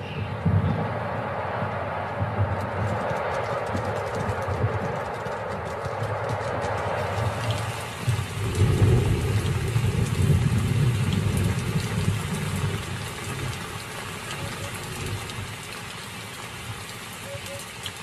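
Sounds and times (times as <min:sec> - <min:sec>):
storm wind rumbling: 0:00.0 - 0:16.9
hiss of wind-blown dust: 0:00.0 - 0:18.0.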